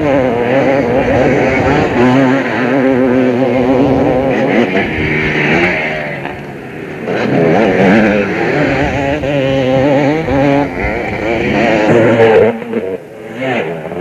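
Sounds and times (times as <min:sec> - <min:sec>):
motocross motorcycle engines revving: 0:00.0 - 0:14.0.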